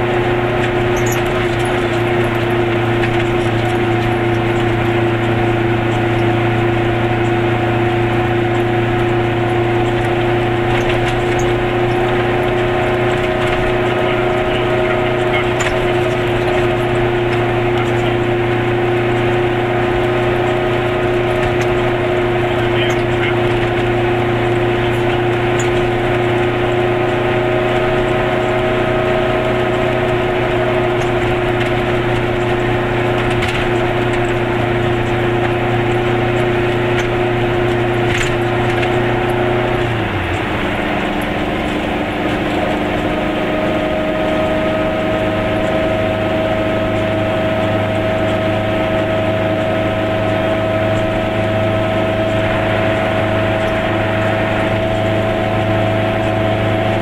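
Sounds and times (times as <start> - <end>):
two-stroke car engine droning: 0.0 - 57.0.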